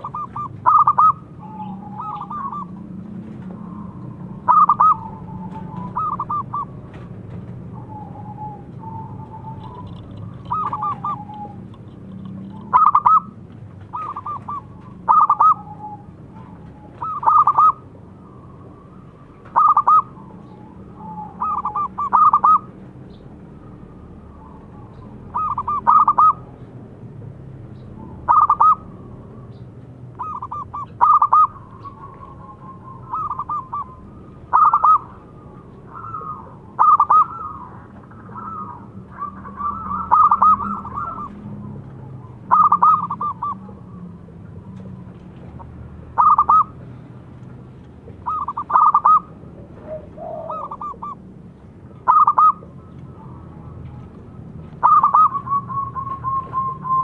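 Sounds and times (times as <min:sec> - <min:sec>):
dove cooing: 0:00.0 - 0:22.8, 0:23.9 - 0:26.6, 0:27.8 - 0:29.6, 0:30.2 - 0:46.9, 0:48.1 - 0:51.3, 0:52.0 - 0:57.0.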